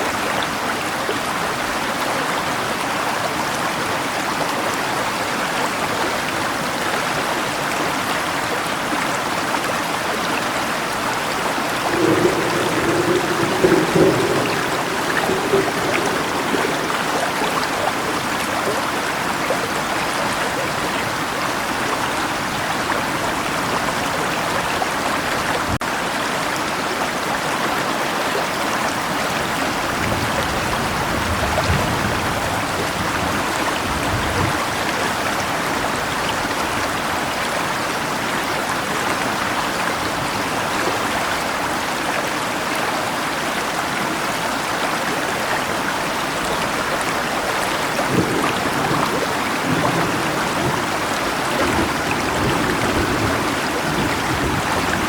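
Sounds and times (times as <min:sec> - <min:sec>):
rain falling: 0:00.0 - 0:55.0
river water rushing: 0:00.0 - 0:55.0.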